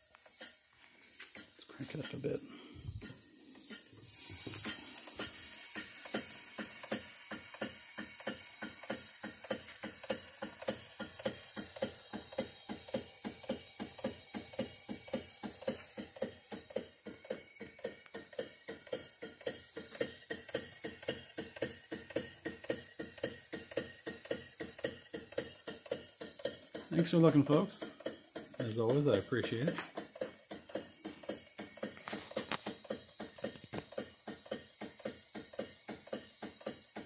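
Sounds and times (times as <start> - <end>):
sewing machine clacking: 4.6 - 37.0.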